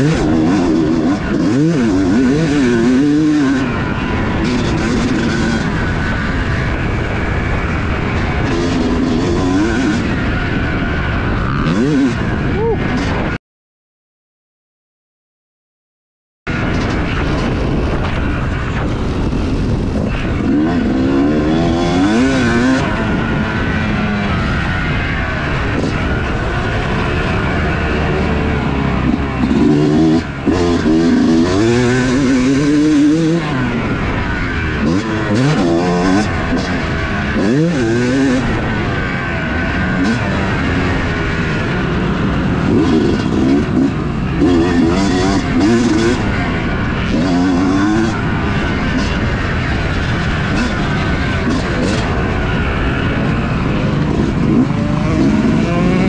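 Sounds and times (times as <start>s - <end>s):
two-stroke motorcycle engine revving: 0.0s - 13.4s, 16.5s - 56.0s.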